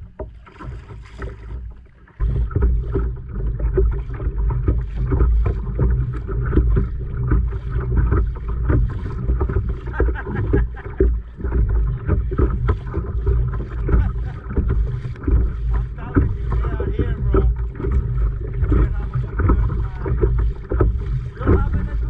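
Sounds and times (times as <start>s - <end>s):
water slapping against hull: 0.0s - 22.0s
wind buffeting microphone: 2.2s - 22.0s.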